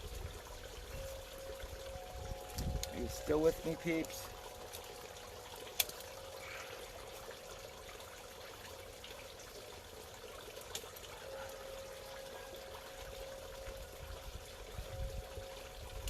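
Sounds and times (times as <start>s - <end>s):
water bubbling and trickling: 0.0s - 16.0s.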